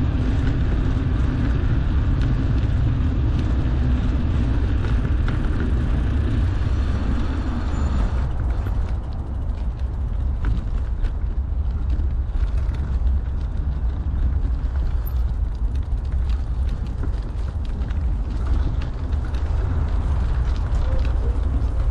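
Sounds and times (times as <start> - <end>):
bike clicks and rattles: 0.0 - 21.9
tyres rolling over pavement: 0.0 - 21.9
wind buffeting microphone: 0.0 - 21.9.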